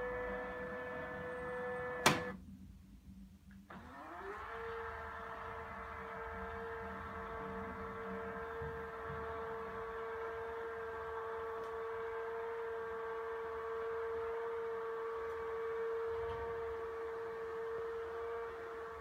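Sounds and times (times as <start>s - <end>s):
roller blind motor humming: 0.0s - 2.4s, 3.7s - 19.0s.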